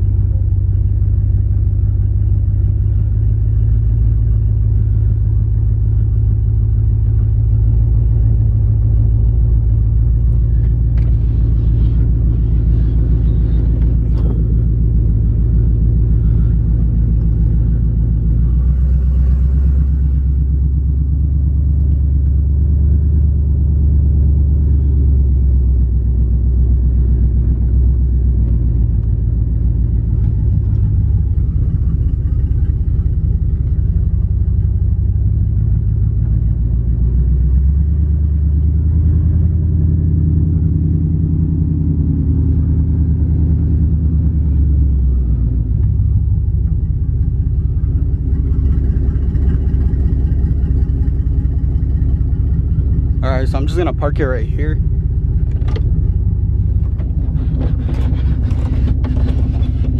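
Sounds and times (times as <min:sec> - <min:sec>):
pickup engine rumbling: 0:00.0 - 0:59.9.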